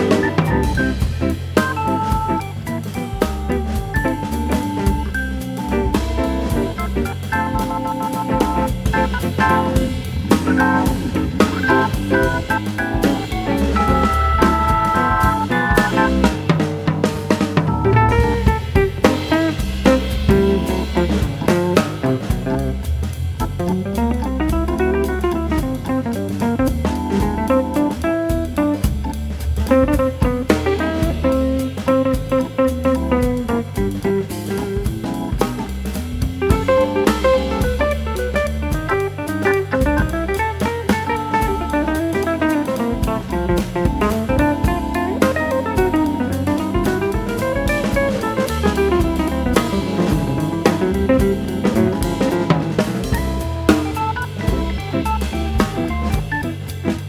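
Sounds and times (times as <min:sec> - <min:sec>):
drum kit beat: 0:00.0 - 0:57.0
guitar-led instrumental music: 0:00.0 - 0:57.0.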